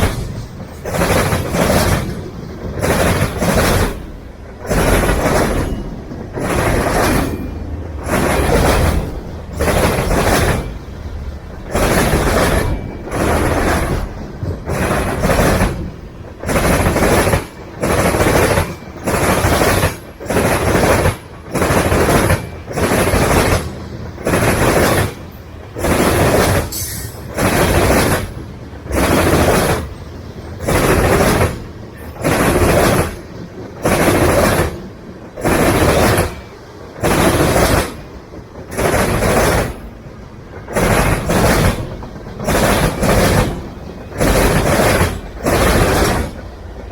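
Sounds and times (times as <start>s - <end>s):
train wheels clattering over rails: 0.0s - 46.9s.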